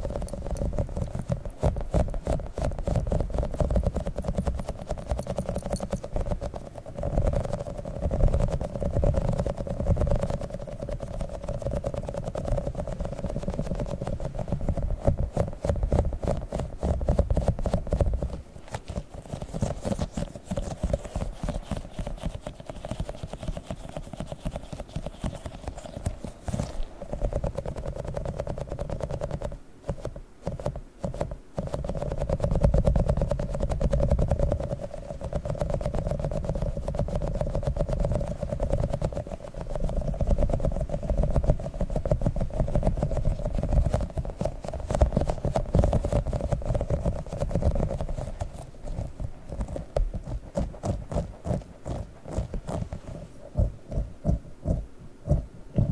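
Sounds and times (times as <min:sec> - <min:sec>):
low thumping rubs: 0:00.0 - 0:55.9.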